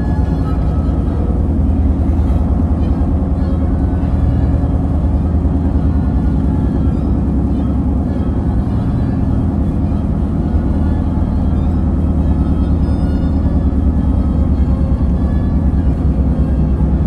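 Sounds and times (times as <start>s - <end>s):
car road rumble inside cabin: 0.0s - 17.0s.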